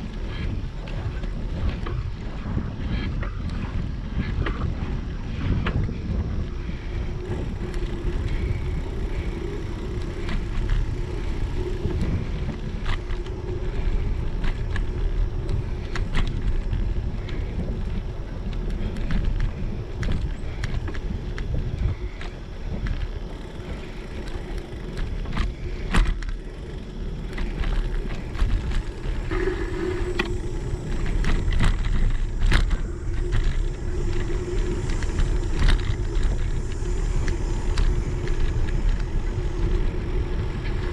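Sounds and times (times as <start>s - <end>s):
bike tyres rolling on pavement: 0.0s - 40.9s
wind rumbling on microphone: 0.0s - 40.9s.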